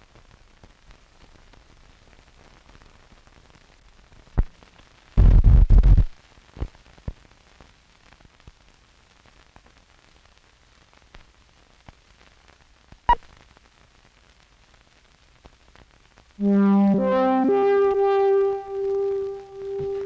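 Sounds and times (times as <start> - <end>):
film soundtrack hiss and crackles: 0.0 - 20.0.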